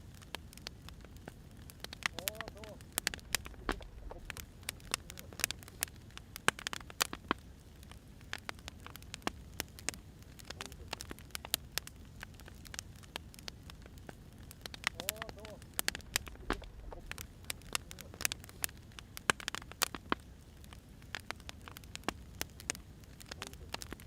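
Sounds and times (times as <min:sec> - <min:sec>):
firewood crackling: 0:00.0 - 0:24.0
low steady rumble: 0:00.0 - 0:24.0.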